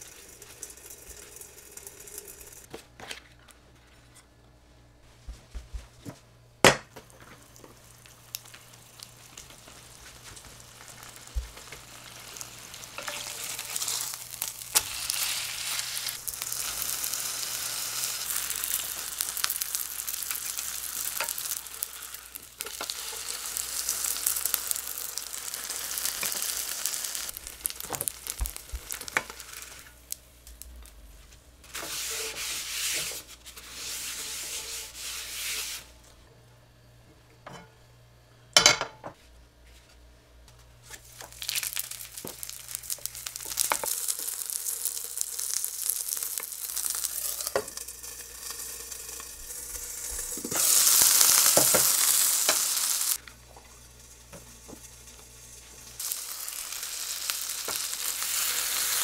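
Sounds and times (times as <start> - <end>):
patties sizzling in oil: 0.0 - 2.7, 7.0 - 35.9, 40.9 - 59.0.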